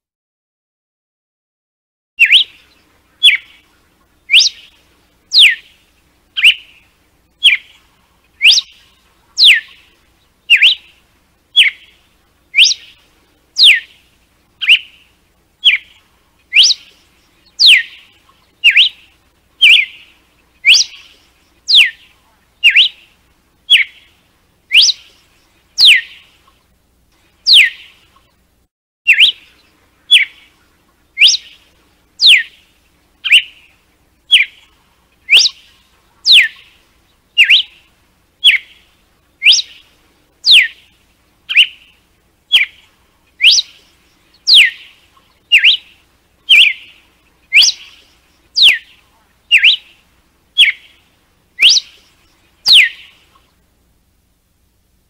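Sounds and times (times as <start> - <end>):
bird singing whistled notes: 2.2 - 26.3, 27.4 - 28.1, 29.1 - 50.0, 50.6 - 51.0, 51.6 - 53.4.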